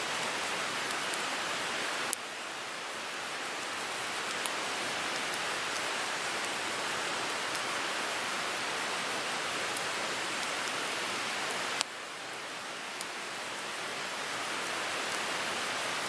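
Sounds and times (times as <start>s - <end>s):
wood fire hissing and crackling: 0.0s - 16.0s.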